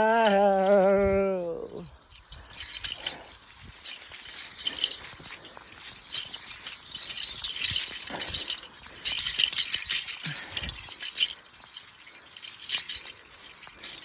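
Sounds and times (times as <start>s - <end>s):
small metal pieces jingling: 0.0s - 14.0s.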